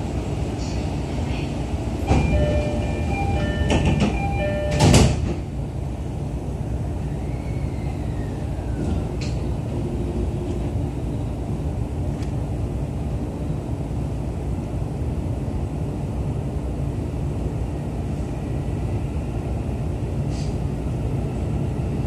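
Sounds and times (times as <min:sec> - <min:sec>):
train car low hum: 0:00.0 - 0:22.0.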